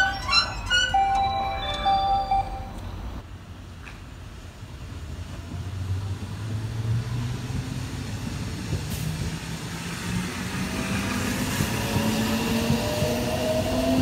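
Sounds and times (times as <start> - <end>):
rumble of train cars: 0.0 - 14.0.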